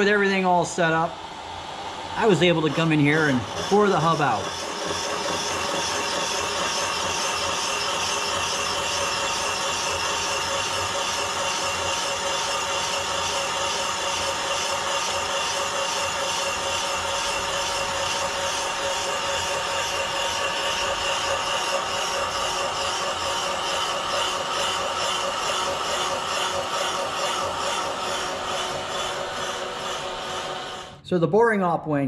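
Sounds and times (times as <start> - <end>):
milling machine hum: 0.0 - 31.0
whining tones: 0.0 - 31.0.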